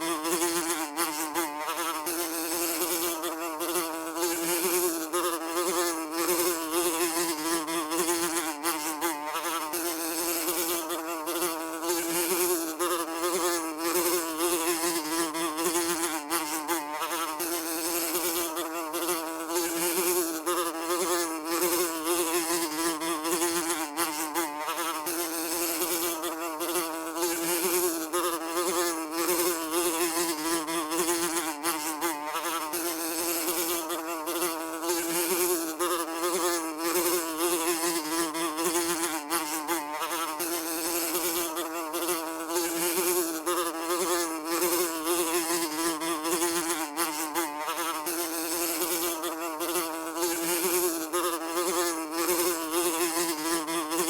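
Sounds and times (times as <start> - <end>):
housefly buzzing: 0.0 - 54.0.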